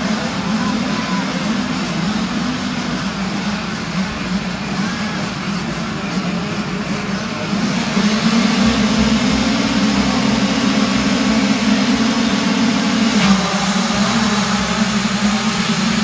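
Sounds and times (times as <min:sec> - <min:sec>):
motocross bikes revving: 0:00.0 - 0:16.0.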